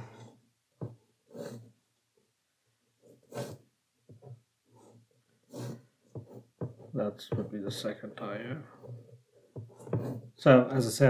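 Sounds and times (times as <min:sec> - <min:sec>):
pencil strokes on paper: 0:00.0 - 0:01.8, 0:03.0 - 0:10.7.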